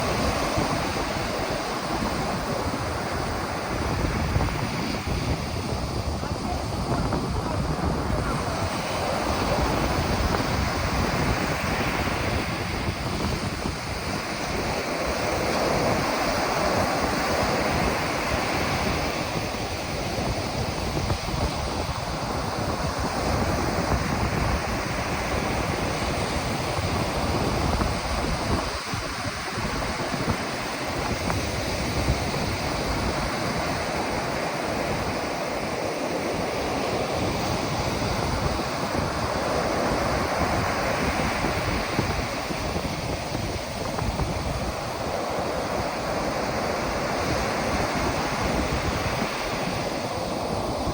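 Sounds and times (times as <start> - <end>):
waves breaking on beach: 0.0 - 50.9
wind buffeting microphone: 0.0 - 50.9.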